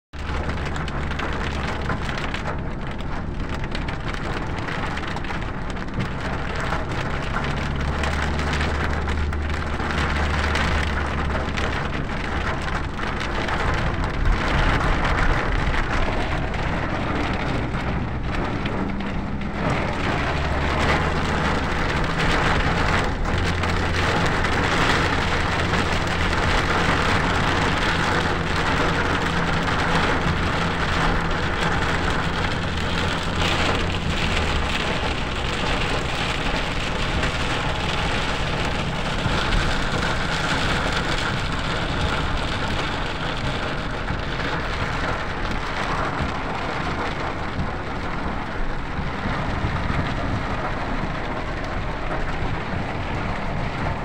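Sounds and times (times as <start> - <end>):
rain on car roof: 0.1 - 54.0
low engine hum: 0.2 - 54.0
tyres hissing on wet road: 0.2 - 54.0.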